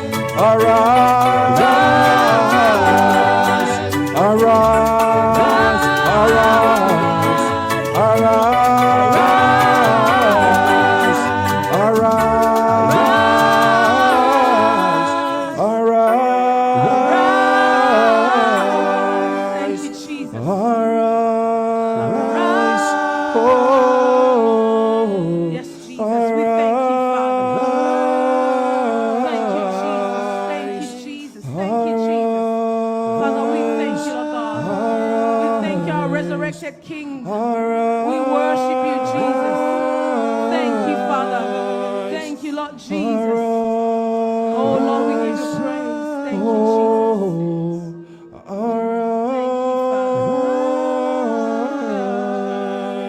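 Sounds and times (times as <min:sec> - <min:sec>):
voices singing worship songs: 0:00.0 - 0:53.0.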